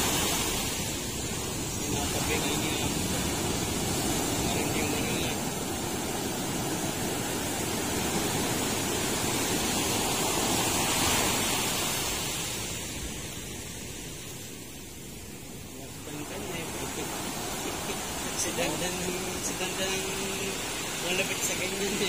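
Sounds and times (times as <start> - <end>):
sea waves rushing: 0.0 - 22.0.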